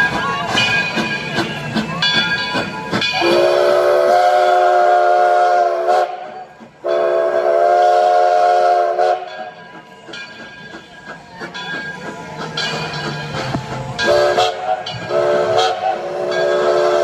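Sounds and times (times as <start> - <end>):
steam locomotive chime whistle: 0.0 - 17.0.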